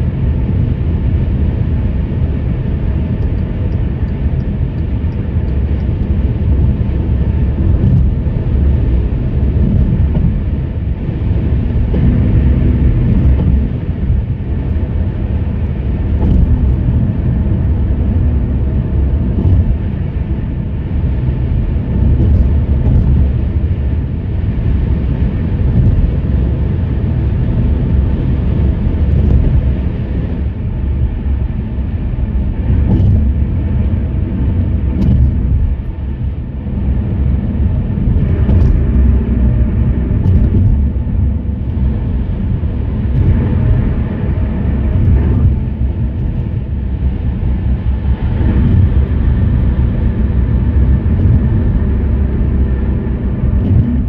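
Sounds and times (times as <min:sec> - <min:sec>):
tyre and road rumble: 0:00.0 - 0:54.0.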